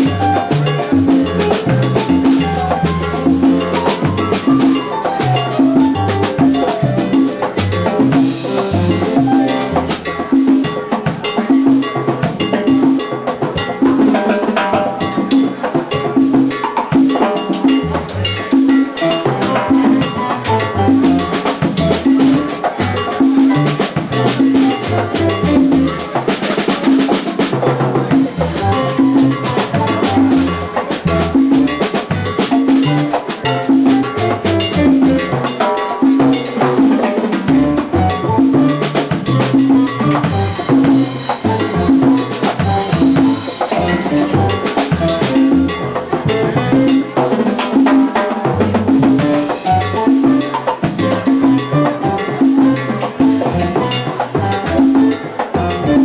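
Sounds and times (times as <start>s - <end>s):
upright bass line: 0.0s - 10.7s, 17.7s - 26.4s, 27.4s - 35.6s, 37.5s - 47.2s, 48.5s - 56.0s
latin jazz band playing: 0.0s - 56.0s.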